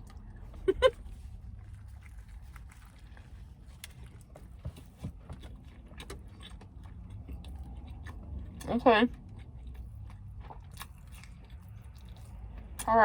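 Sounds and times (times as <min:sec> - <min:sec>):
chewing with mouth clicks: 0:00.0 - 0:13.0
low steady hum: 0:00.0 - 0:13.0.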